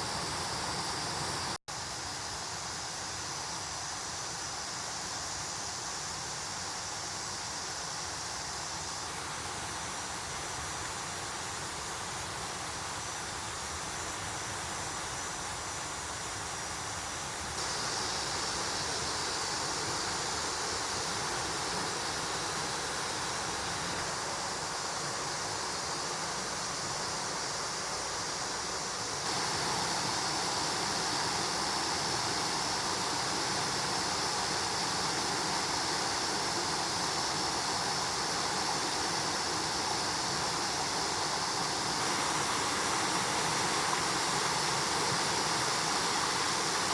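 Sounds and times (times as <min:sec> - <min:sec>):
rushing mountain stream: 0:00.0 - 0:46.9.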